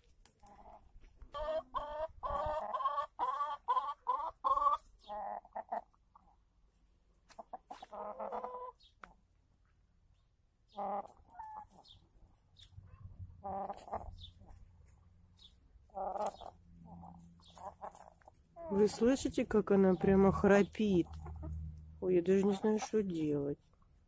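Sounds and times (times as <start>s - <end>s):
hens clucking: 0.3s - 9.3s, 10.6s - 24.0s.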